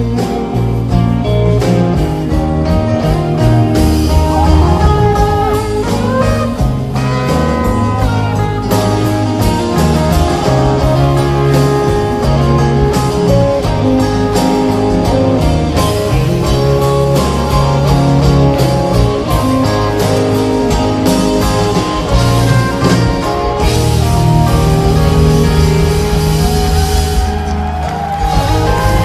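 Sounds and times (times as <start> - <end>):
slow rock band playing: 0.0 - 29.0.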